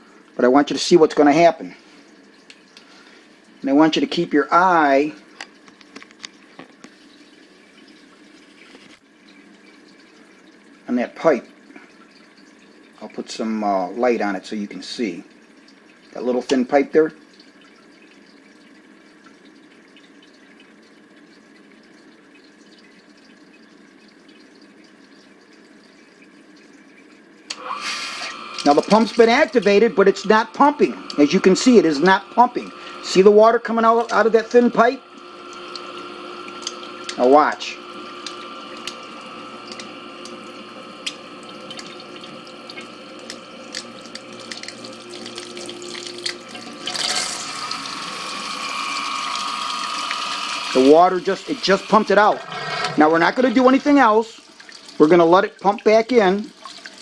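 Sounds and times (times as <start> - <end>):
water trickling and dripping: 0.0 - 27.6, 28.3 - 57.0
sump pump humming: 0.0 - 57.0.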